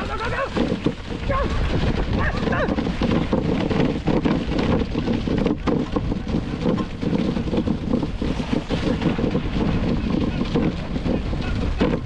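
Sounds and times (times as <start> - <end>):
sled runners scraping on snow: 0.0 - 12.0
wind buffeting microphone: 0.0 - 12.0.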